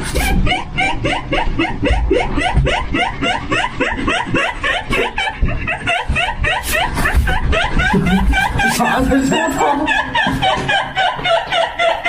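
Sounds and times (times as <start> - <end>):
high-pitched rapid laughter: 0.0 - 12.0.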